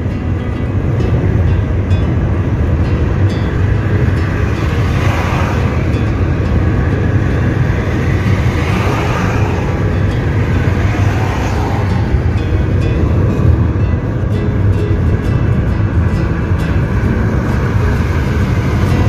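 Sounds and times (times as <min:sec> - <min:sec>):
car engine and road noise rumble: 0:00.0 - 0:19.0.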